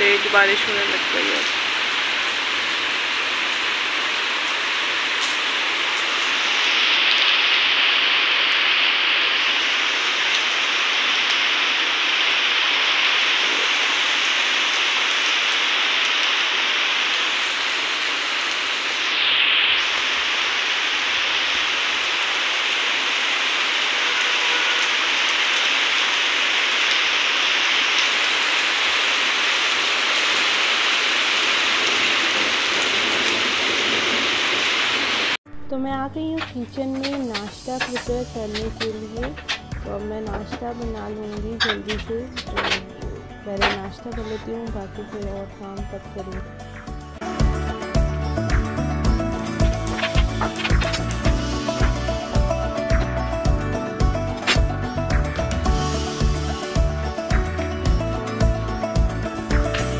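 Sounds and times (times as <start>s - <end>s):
heavy rain on paving: 0.0s - 35.4s, 40.5s - 44.5s, 46.9s - 59.9s.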